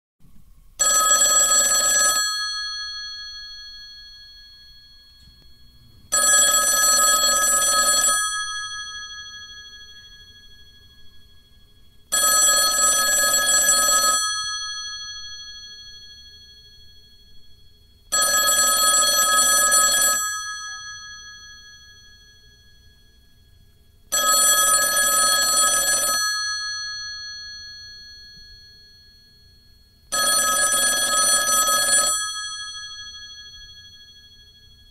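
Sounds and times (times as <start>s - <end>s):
telephone bell ringing: 0.8s - 34.9s.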